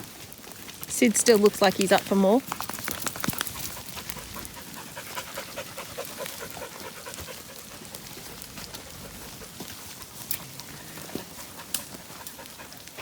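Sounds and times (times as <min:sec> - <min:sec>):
dog panting: 0:01.6 - 0:13.0.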